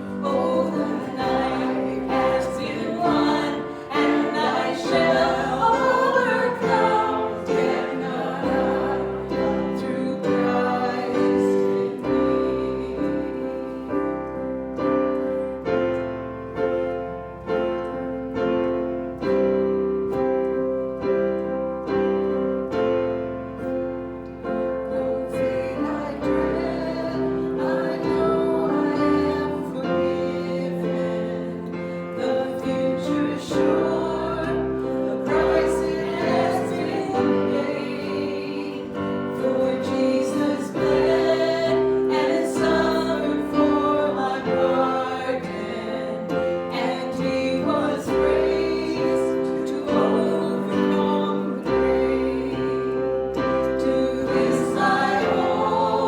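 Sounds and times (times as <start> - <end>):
voices singing: 0.0 - 15.0, 24.6 - 56.0
piano playing a hymn: 0.0 - 56.0.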